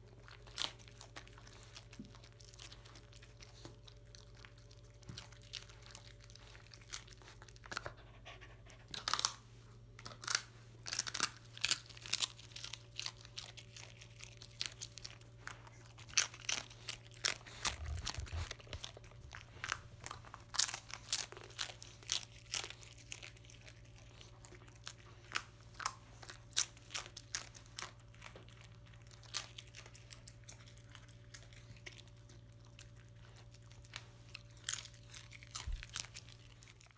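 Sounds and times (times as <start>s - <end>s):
dog crunching rice crust: 0.0s - 36.9s.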